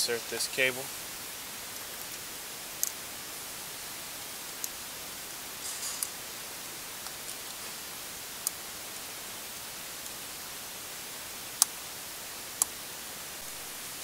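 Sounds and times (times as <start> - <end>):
recording hiss: 0.0 - 14.0.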